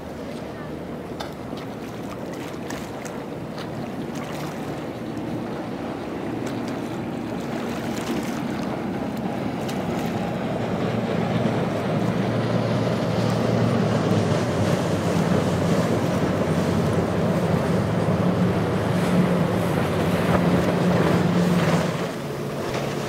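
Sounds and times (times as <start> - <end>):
hull rushing through water: 0.0 - 23.0
outboard motors running: 0.0 - 23.0.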